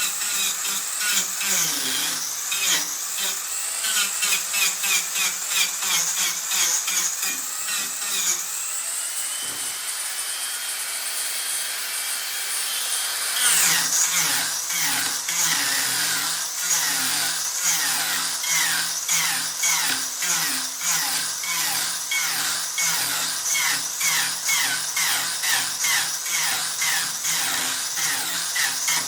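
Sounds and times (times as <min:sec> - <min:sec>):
angle grinder cutting wood: 0:00.0 - 0:29.0.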